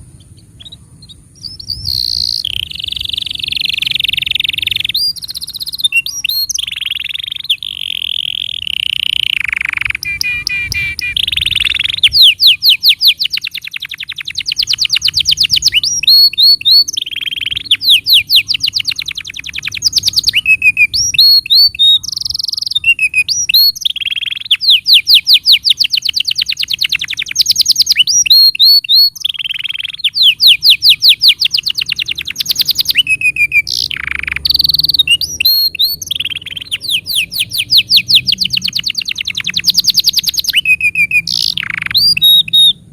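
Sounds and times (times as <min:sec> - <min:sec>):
canary singing fast trills: 0:00.0 - 0:42.9.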